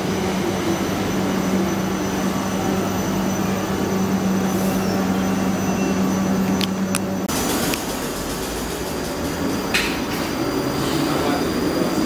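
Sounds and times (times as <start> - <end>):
electric train passing: 0.0 - 12.0
wheels rumbling on rails: 0.0 - 12.0.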